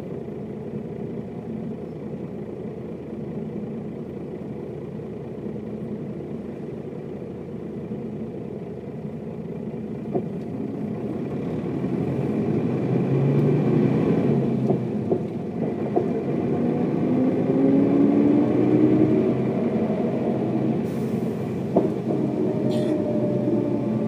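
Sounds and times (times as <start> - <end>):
bus diesel engine accelerating: 0.0 - 24.0.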